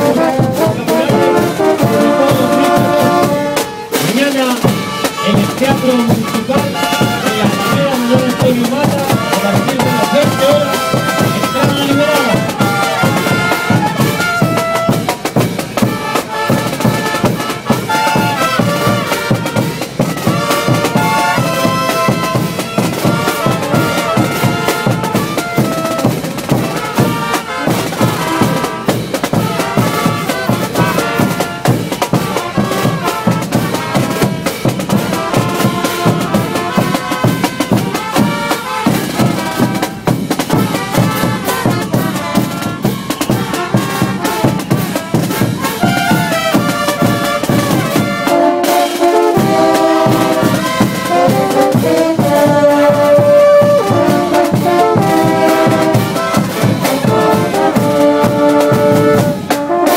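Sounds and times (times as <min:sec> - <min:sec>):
bass drums: 0:00.0 - 0:59.9
brass band marching tune: 0:00.0 - 0:59.9.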